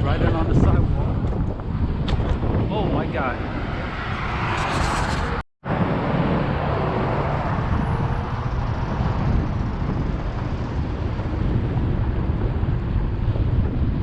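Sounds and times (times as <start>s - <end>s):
wind rushing over microphone: 0.0s - 14.0s
road traffic noise: 0.8s - 13.7s.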